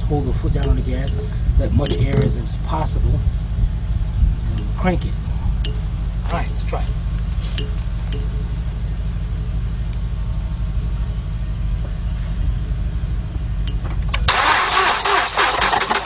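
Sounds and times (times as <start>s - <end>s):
steady low hum: 0.0s - 15.8s
starter cranking engine: 0.0s - 16.0s.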